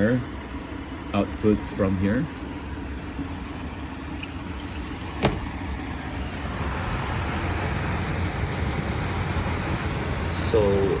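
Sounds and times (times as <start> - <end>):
air conditioner fan airflow: 0.0 - 11.0.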